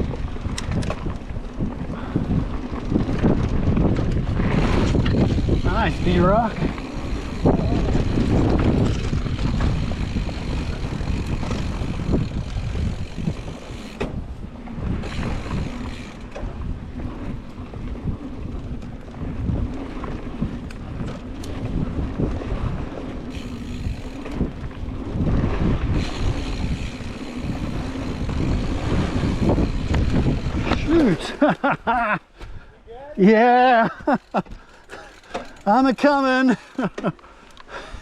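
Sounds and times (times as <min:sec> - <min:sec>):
bike knocks and rattles: 0:00.0 - 0:01.8, 0:02.4 - 0:17.4, 0:19.2 - 0:31.2, 0:34.0 - 0:37.2
bike tyres rumbling on dirt: 0:00.0 - 0:31.8, 0:33.3 - 0:37.2
wind on microphone: 0:00.0 - 0:35.7.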